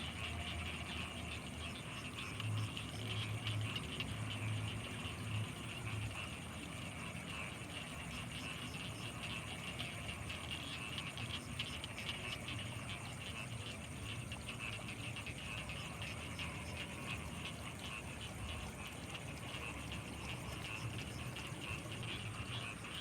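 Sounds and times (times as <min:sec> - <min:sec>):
frogs croaking chorus: 0:00.0 - 0:23.0.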